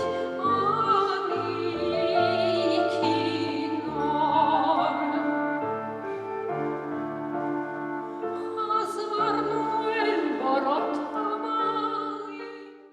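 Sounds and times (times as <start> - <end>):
woman singing with vibrato: 0.0 - 6.0, 8.0 - 12.8.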